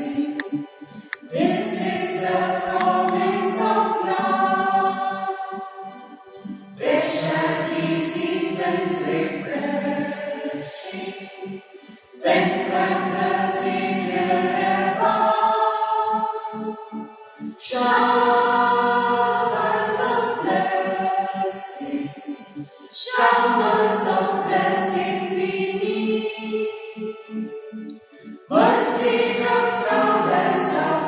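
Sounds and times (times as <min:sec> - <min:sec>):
group singing a hymn: 0:00.0 - 0:06.0, 0:06.8 - 0:17.0, 0:17.6 - 0:27.4, 0:28.5 - 0:31.0.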